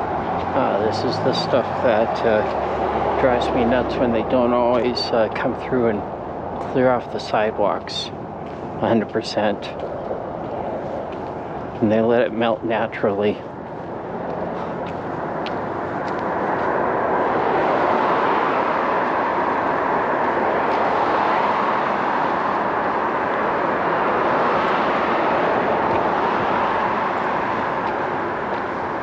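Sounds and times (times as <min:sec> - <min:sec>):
passing traffic rushing: 0:00.0 - 0:29.0.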